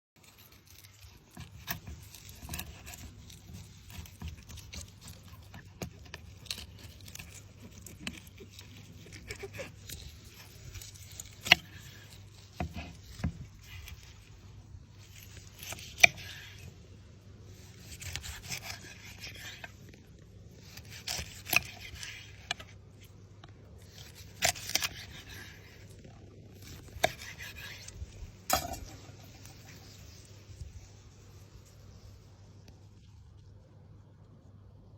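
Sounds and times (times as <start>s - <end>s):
scraping: 0.2s - 33.2s.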